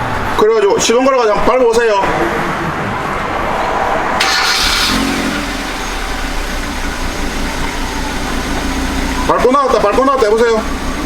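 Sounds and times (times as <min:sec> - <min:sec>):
car engine starting and idling: 0:01.8 - 0:11.0.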